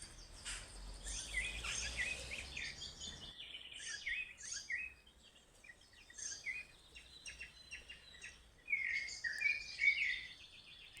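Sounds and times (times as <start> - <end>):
small birds chirping and singing: 0.0 - 11.0.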